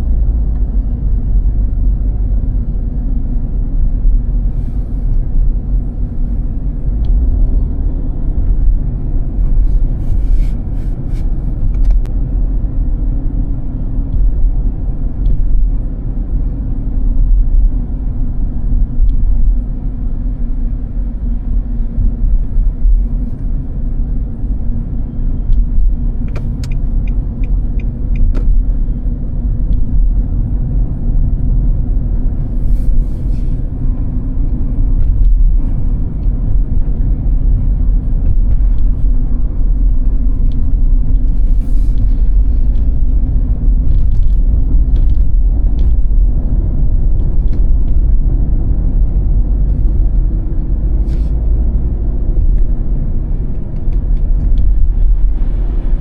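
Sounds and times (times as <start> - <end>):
car driving on snow: 0.0 - 56.0.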